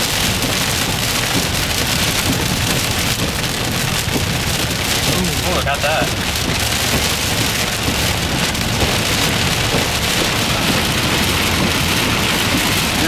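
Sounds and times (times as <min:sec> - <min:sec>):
heavy rain on car roof: 0:00.0 - 0:13.0.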